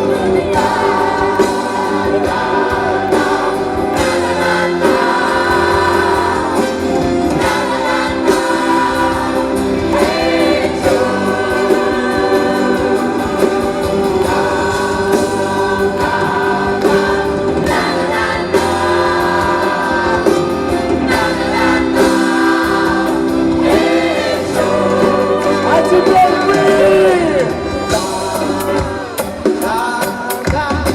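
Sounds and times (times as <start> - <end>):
voices singing in chorus: 0.0 - 30.7
live band playing: 0.0 - 30.9.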